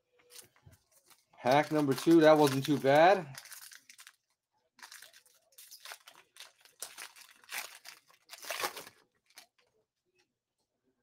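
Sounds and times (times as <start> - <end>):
foil wrapper crinkling: 0.2 - 9.6.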